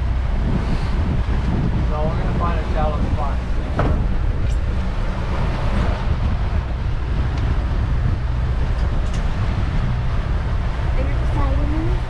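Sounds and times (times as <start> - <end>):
boat engine droning: 0.0 - 12.0
wind rushing on microphone: 0.0 - 12.0.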